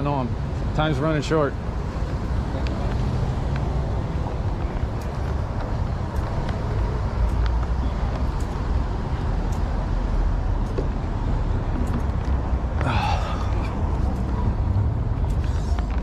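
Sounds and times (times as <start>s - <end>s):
passing cars rumbling: 0.0s - 16.0s.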